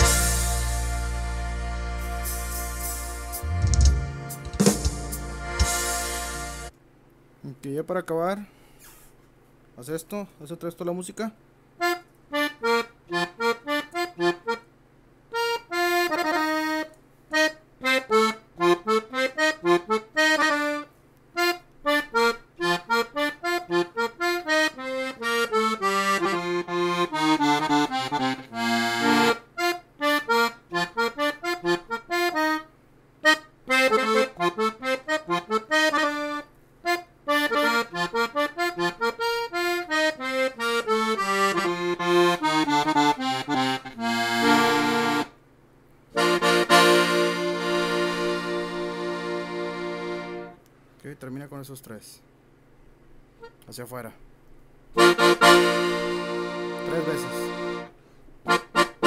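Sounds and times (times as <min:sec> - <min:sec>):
button accordion melody: 0:00.0 - 0:06.8, 0:11.8 - 0:14.7, 0:15.3 - 0:45.4, 0:46.1 - 0:50.6, 0:55.0 - 0:59.0.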